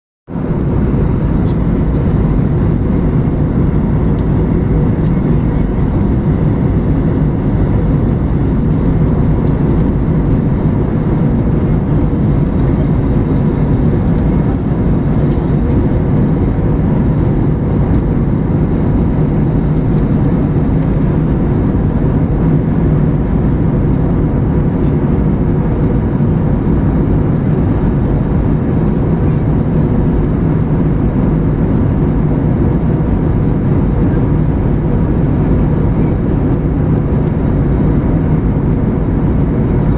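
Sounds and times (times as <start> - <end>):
airliner cabin engine rush: 0.3 - 39.9
faint steady hum: 0.3 - 39.9.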